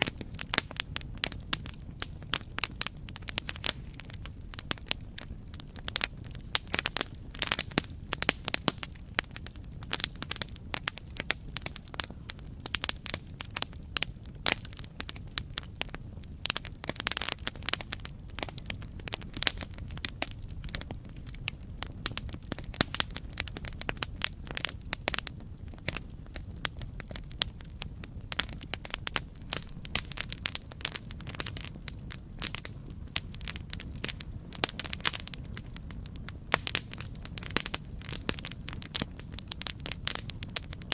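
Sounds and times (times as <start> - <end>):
burning wood popping and snapping: 0.0 - 40.9
low rumble of flames: 0.0 - 40.9.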